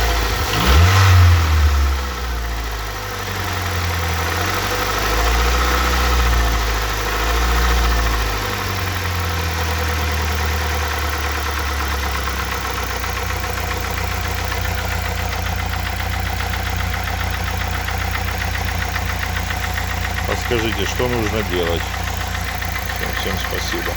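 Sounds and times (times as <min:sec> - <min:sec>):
car engine idling with knock: 0:00.0 - 0:23.9.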